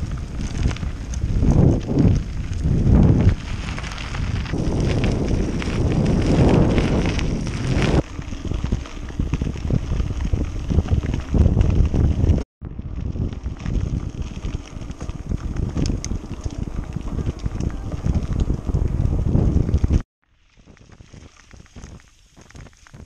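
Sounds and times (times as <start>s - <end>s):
bike rattling and knocking: 0.0s - 20.0s
bike tyres on gravel: 0.0s - 23.0s
wind on microphone: 0.0s - 23.0s.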